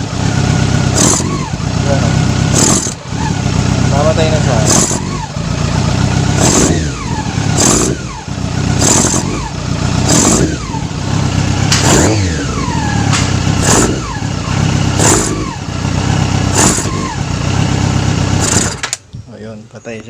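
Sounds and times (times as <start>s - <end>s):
motorcycle engine revving unevenly: 0.0s - 20.0s.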